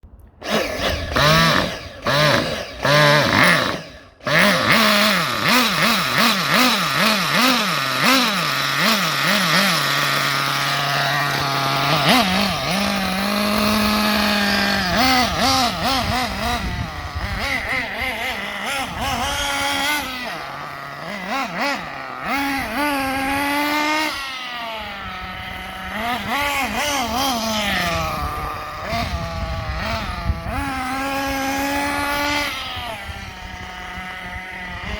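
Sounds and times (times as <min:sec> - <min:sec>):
nitro engine revving: 0:00.4 - 0:34.9.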